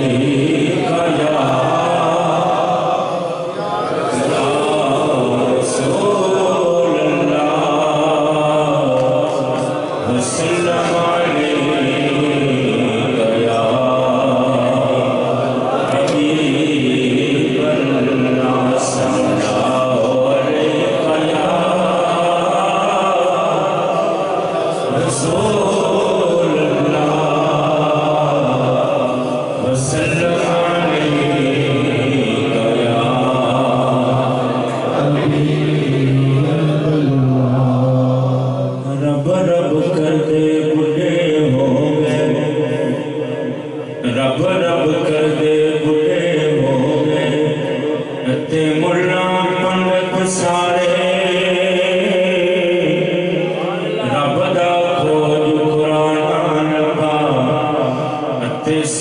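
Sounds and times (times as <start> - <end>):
man chanting into microphone: 0.0 - 59.0.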